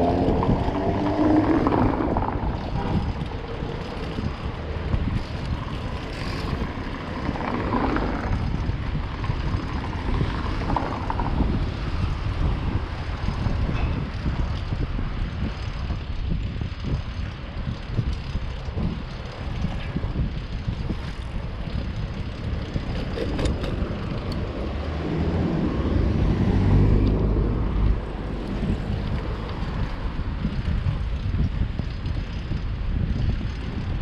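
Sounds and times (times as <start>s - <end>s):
city traffic: 0.0s - 34.0s
wind rumbling on microphone: 0.0s - 34.0s.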